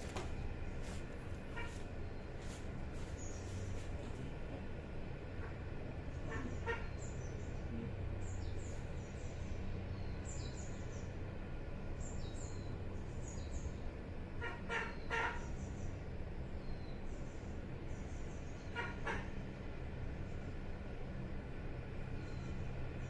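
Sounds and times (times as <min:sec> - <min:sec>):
steady low hum: 0:00.0 - 0:23.0
small birds chirping: 0:00.4 - 0:14.1, 0:14.7 - 0:19.4, 0:22.0 - 0:23.0.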